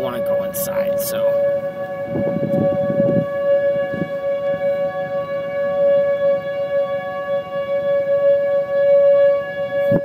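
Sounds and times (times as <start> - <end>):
warning siren steady tone: 0.0 - 10.0.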